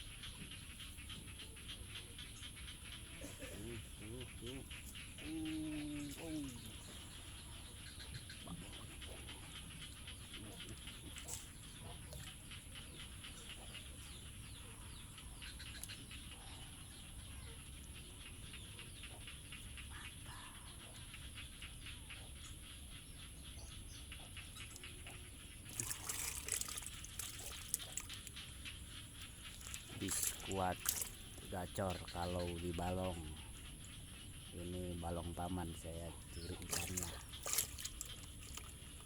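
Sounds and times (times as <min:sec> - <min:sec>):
animal calls with dense clicking: 0:00.0 - 0:39.0.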